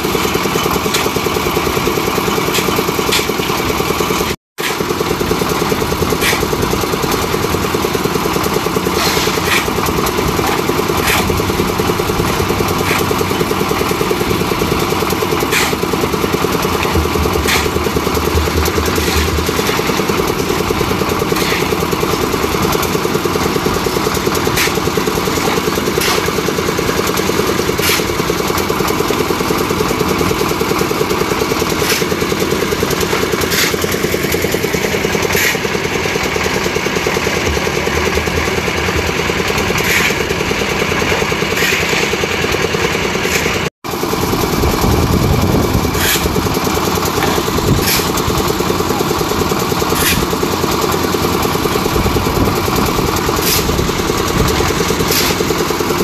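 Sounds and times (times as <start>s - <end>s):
concrete mixer engine running: 0.0s - 56.0s
shovel scraping: 0.0s - 56.0s.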